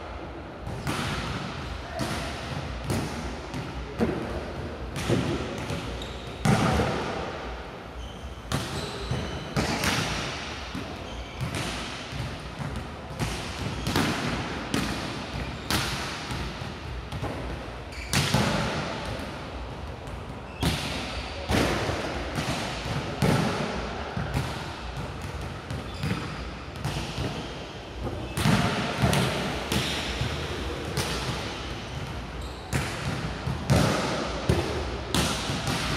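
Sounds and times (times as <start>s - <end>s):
ball bouncing in echoing hall: 0.0s - 35.9s.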